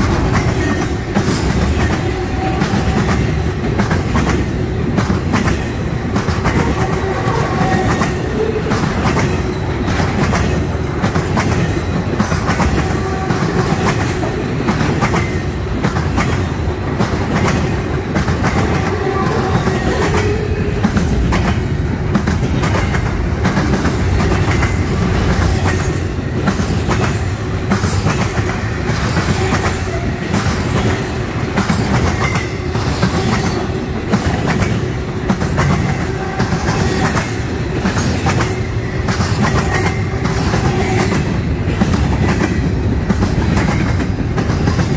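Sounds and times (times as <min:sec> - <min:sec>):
clickety-clack over rail joints: 0:00.0 - 0:44.9.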